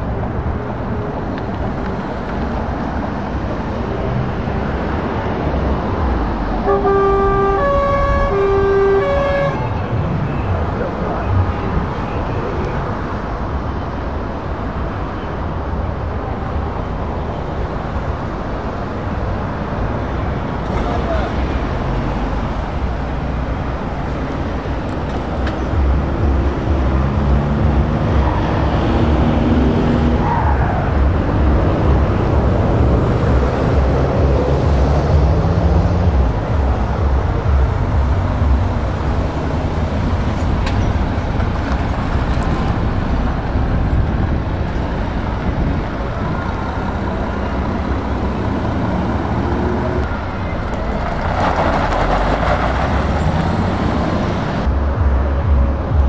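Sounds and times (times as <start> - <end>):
truck diesel engines accelerating: 0.0 - 56.0.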